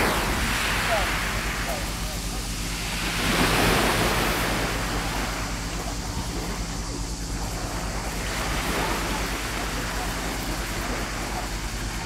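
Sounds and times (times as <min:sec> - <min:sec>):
jet ski engine running: 0:00.0 - 0:12.0
water rushing: 0:00.0 - 0:12.0
wind noise on microphone: 0:00.0 - 0:12.0.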